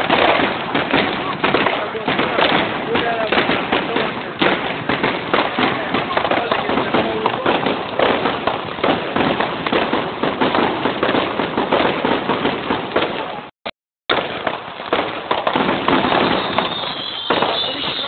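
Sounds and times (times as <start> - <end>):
fireworks cracks and bangs: 0.0 - 18.0.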